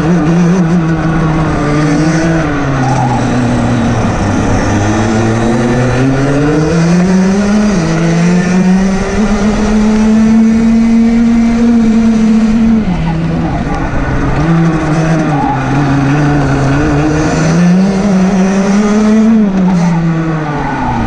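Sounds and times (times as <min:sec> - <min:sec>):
kart two-stroke engine running: 0:00.0 - 0:21.0.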